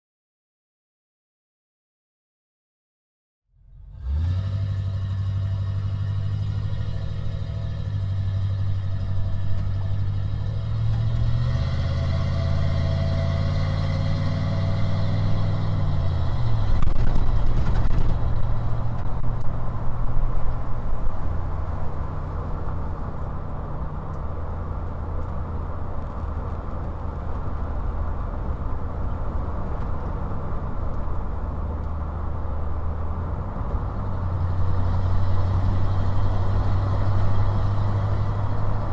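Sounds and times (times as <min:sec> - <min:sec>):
car engine humming: 0:03.6 - 0:38.9
road noise: 0:03.6 - 0:38.9.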